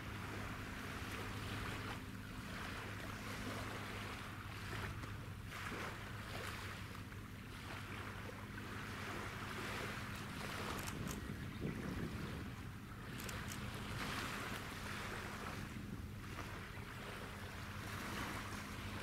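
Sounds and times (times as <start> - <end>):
rush of wind and water: 0.0 - 19.0.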